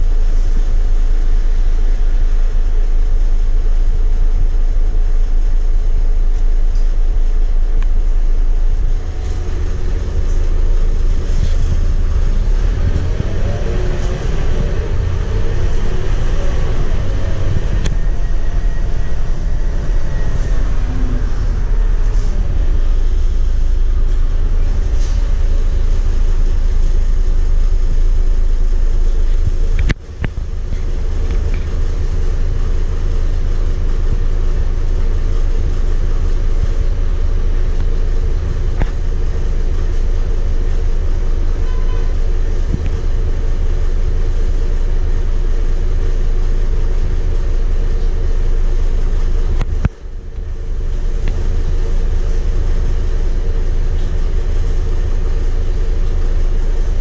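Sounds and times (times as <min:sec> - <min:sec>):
bus diesel engine idling: 0:00.0 - 0:57.0.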